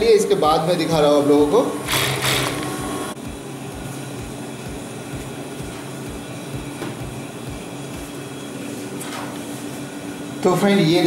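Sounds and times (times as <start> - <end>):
motor humming: 0.9 - 10.4.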